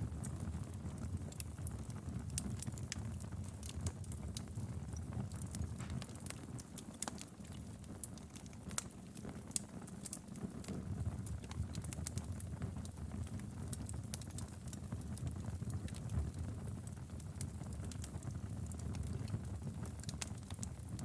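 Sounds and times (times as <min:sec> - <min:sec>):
fire crackles and pops: 0:00.0 - 0:21.0
wood fire rumble: 0:00.0 - 0:21.0.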